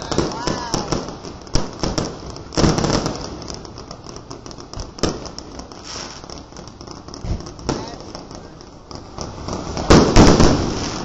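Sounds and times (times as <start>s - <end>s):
firework bangs: 0.0s - 11.0s
fireworks crackling and popping: 0.0s - 11.0s.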